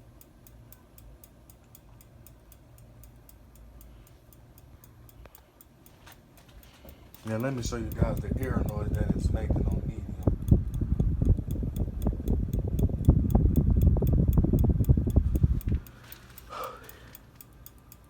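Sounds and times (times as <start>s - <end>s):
ceiling fan airflow rumble: 0.0s - 18.0s
pull chains ticking on bulb: 0.0s - 18.0s.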